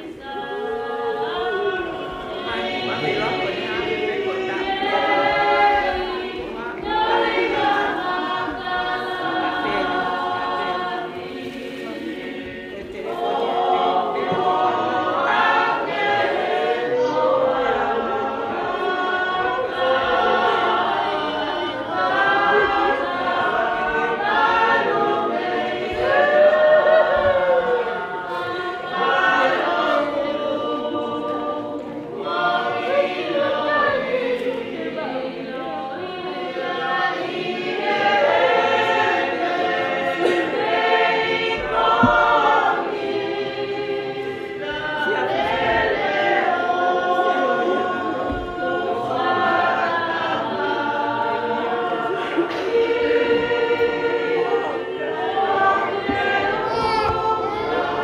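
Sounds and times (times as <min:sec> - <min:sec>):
choir singing unaccompanied: 0:00.0 - 0:58.0.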